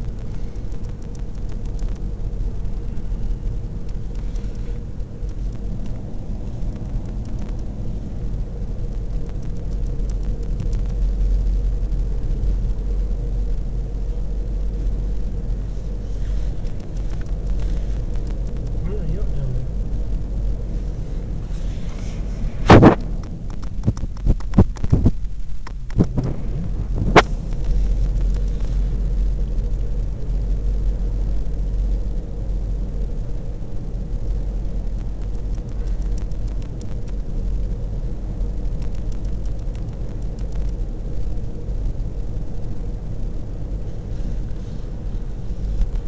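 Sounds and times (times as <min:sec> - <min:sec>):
car driving rumble: 0:00.0 - 0:46.0.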